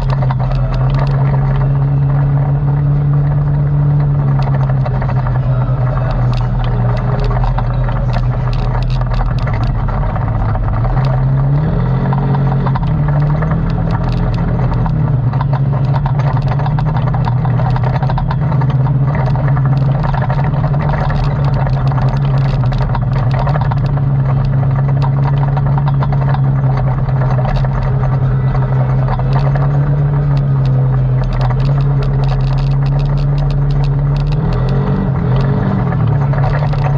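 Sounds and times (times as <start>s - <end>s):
atv engine running: 0.0s - 36.9s
clicks and rattles: 0.0s - 36.9s.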